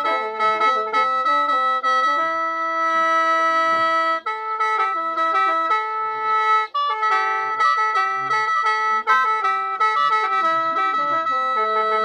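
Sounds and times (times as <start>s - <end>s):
mouth organ drone and melody: 0.0s - 12.0s.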